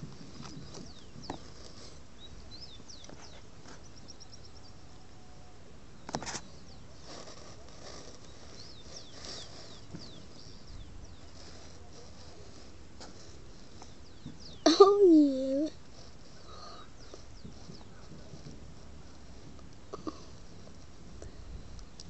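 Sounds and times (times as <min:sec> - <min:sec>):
small birds chirping: 0:00.0 - 0:05.2, 0:05.8 - 0:22.0.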